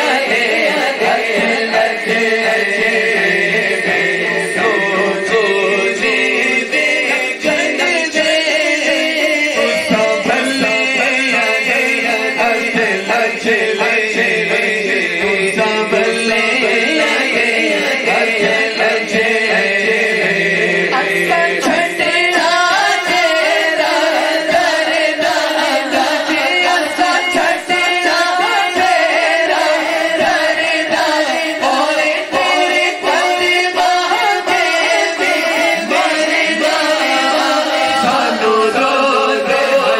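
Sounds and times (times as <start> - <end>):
men singing devotional song: 0.0 - 39.9.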